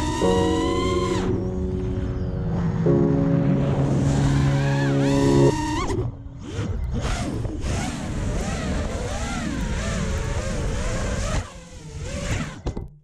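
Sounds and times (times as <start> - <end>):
drone motors whining: 0.0 - 12.7.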